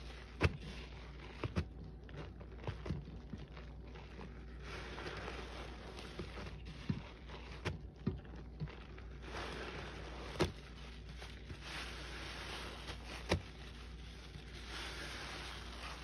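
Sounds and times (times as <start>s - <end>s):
wet sponge squishing foam: 0.0s - 16.0s.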